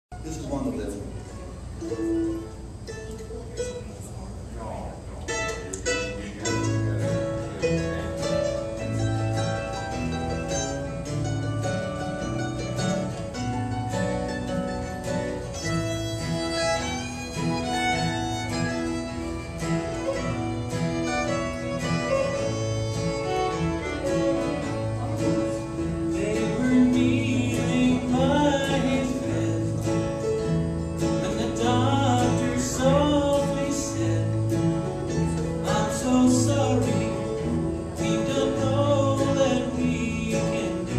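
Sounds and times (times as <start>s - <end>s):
bluegrass band playing: 0.1s - 40.9s.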